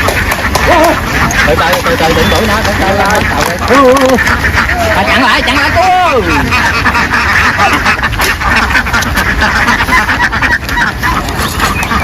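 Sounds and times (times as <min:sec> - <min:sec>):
flock of ducks quacking: 0:00.0 - 0:12.0.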